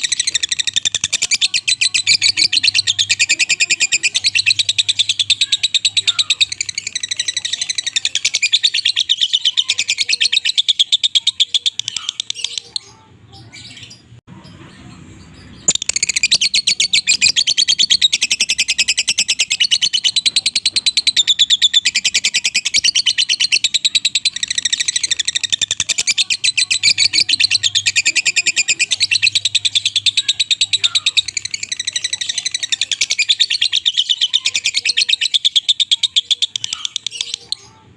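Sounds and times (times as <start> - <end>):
songbirds chirping rapidly: 0.0 - 37.9.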